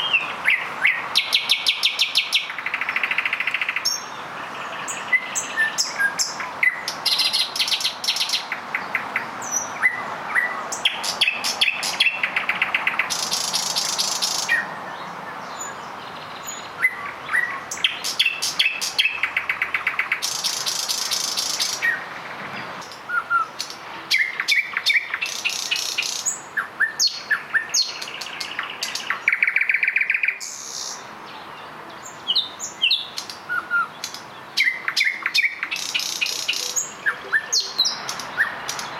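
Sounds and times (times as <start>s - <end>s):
nightingales singing: 0.0s - 38.9s.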